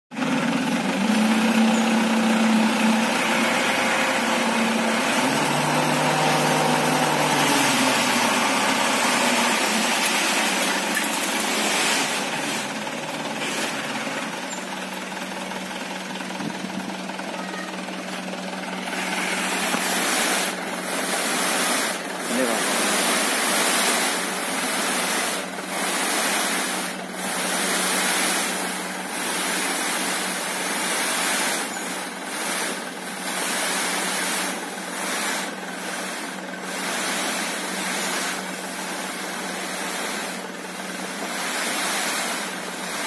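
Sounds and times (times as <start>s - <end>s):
diesel truck engine running: 0.1s - 43.0s
hydraulic hoist: 0.2s - 43.0s
sand sliding and pouring: 0.6s - 15.7s, 18.1s - 43.0s.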